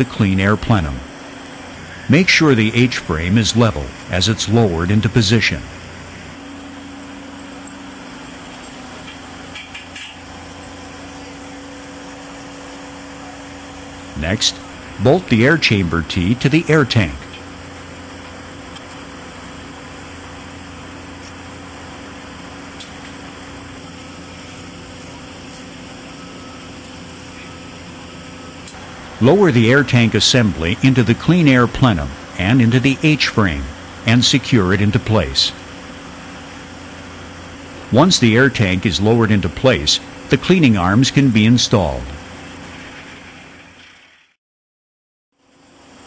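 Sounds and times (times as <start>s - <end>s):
low hum with hiss: 0.0s - 44.3s.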